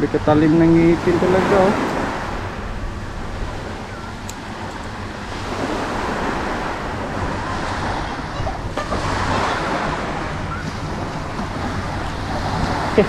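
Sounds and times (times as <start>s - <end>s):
surf rushing: 0.0s - 13.0s
wind: 0.0s - 13.0s.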